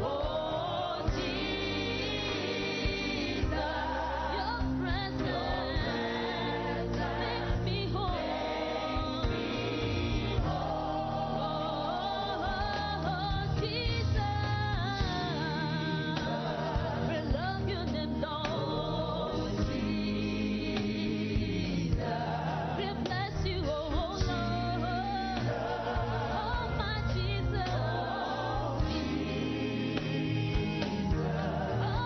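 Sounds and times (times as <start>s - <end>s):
band with regular beat: 0.0s - 32.0s
gospel singing: 0.0s - 32.0s.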